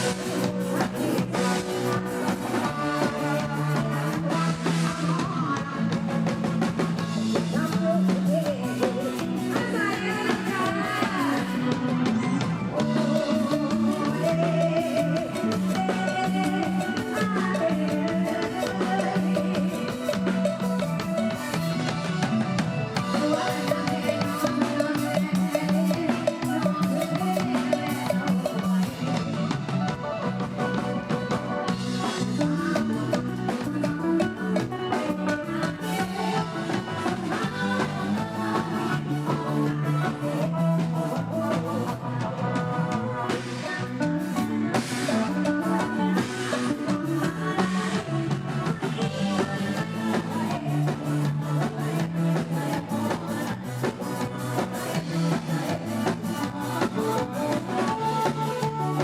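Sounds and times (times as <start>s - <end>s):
live band music: 0.0s - 59.0s.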